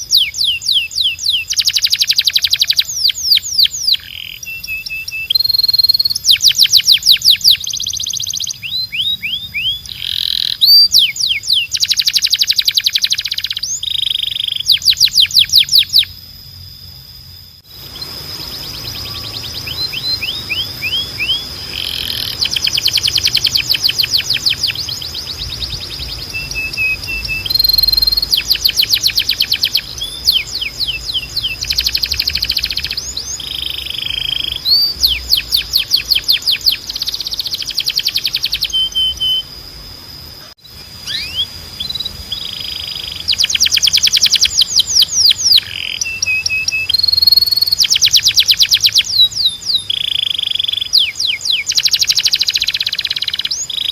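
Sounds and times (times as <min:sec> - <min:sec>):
canary singing: 0:00.0 - 0:16.6, 0:17.6 - 0:39.6, 0:40.4 - 0:53.9.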